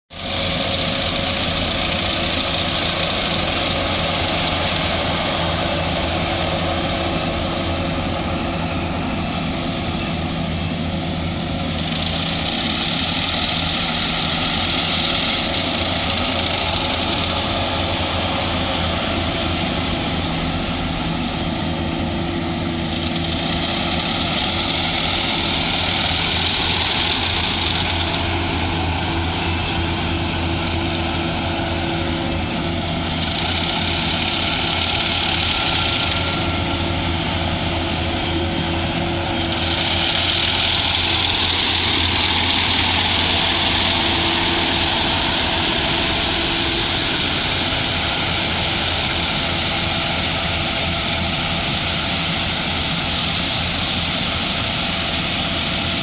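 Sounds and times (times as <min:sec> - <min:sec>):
harvesting machine engine running: 0:00.1 - 0:56.0.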